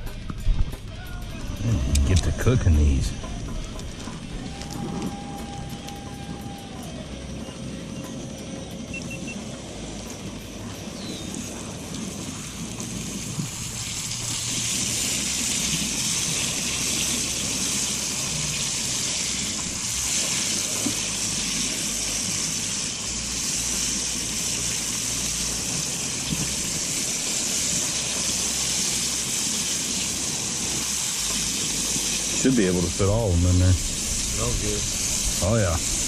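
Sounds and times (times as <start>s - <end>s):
grease popping: 0.0s - 36.0s
fish frying in grease: 1.2s - 36.0s.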